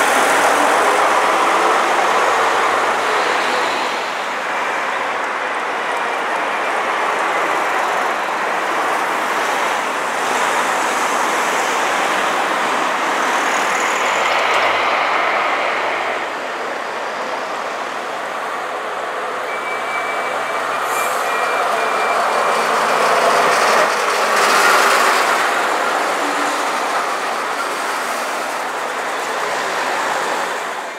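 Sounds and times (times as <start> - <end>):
diesel bus engines rumbling: 0.0 - 30.9
street traffic: 0.0 - 30.9.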